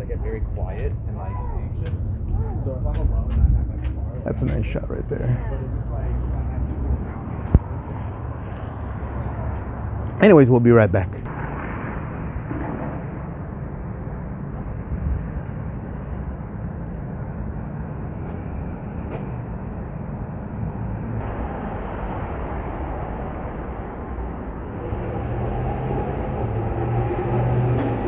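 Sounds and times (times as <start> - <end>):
city traffic: 0.0 - 28.0.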